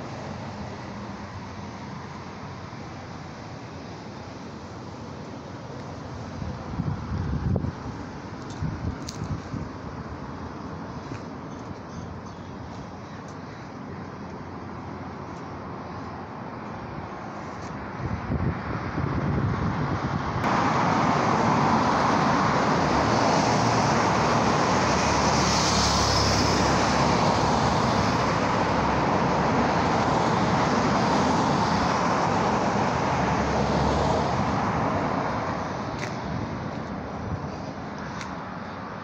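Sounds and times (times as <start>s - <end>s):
passing road traffic: 0.0s - 39.0s.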